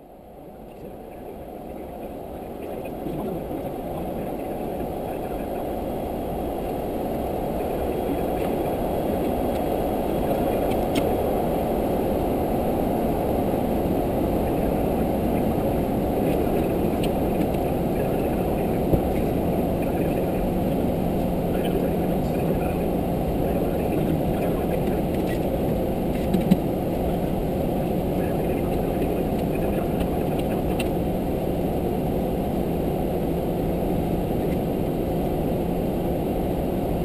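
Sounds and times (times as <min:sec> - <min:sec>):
airflow and engine hum in cockpit: 0:00.0 - 0:37.0.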